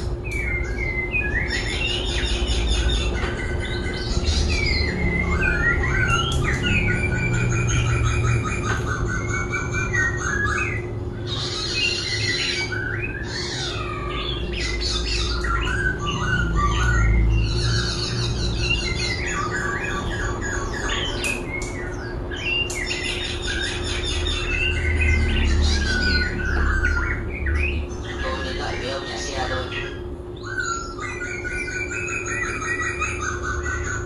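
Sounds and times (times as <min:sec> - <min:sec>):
bird singing varied trills: 0:00.0 - 0:34.0
steady low hum: 0:00.0 - 0:34.0.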